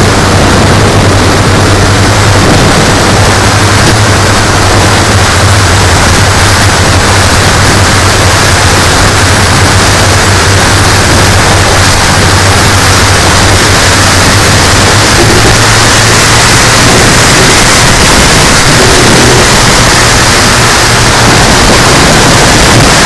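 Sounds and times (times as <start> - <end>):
loud even rushing noise: 0.0 - 23.0
model plane engines humming: 0.0 - 23.0.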